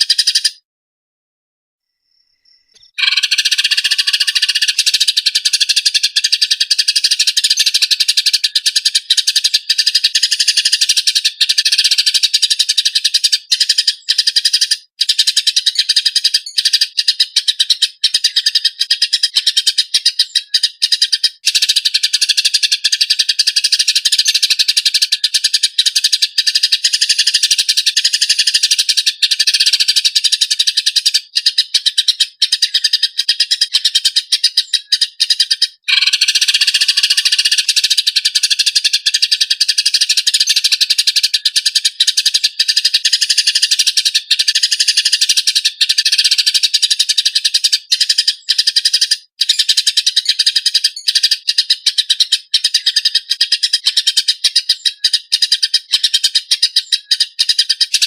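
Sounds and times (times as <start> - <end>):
sparrows chattering: 0.0 - 0.6, 2.1 - 58.0.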